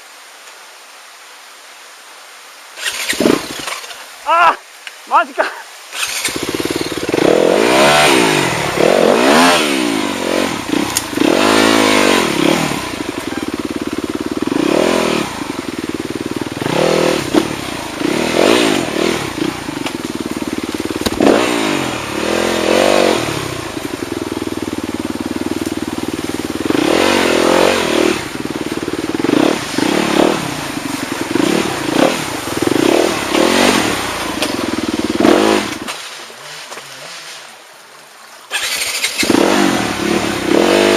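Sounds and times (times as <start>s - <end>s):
motorcycle engine revving: 2.8s - 4.0s, 5.9s - 36.0s, 38.5s - 40.9s.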